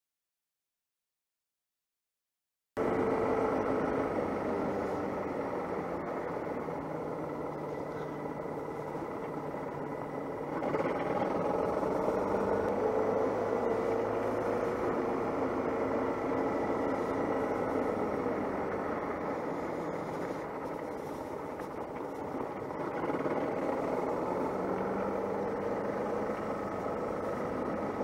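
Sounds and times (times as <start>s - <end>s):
motorcycle engine running: 2.8s - 28.0s.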